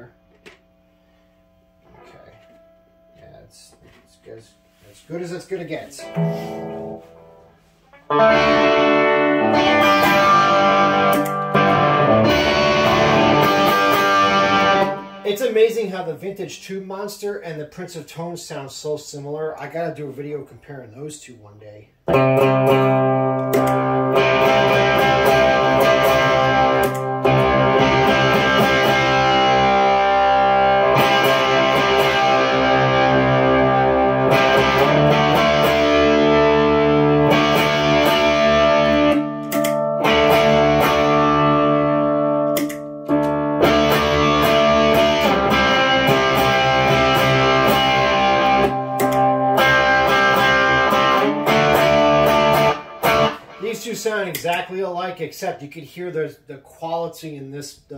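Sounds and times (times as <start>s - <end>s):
overdriven electric guitar chords: 0.0s - 4.8s, 6.0s - 15.4s, 22.1s - 54.3s.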